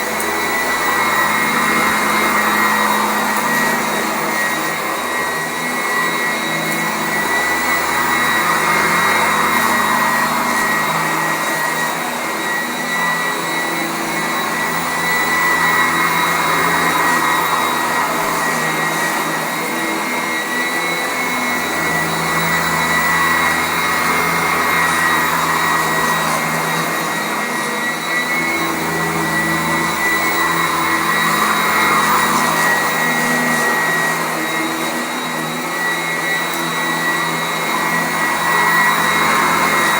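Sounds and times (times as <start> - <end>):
vacuum cleaner running over carpet: 0.0 - 39.9.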